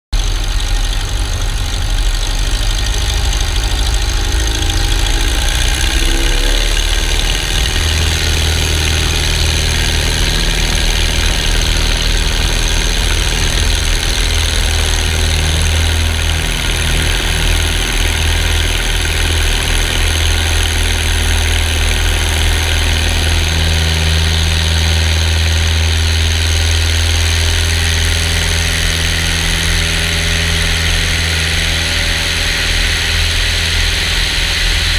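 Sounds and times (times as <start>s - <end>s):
light aircraft engine and propeller: 0.2s - 34.9s.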